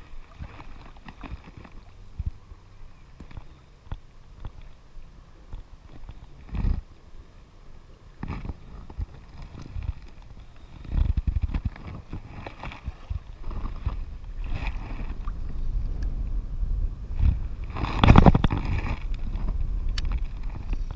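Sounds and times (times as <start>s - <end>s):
sea water lapping and splashing: 0.0s - 15.9s, 17.1s - 20.9s
wind rumble on microphone: 0.0s - 20.9s.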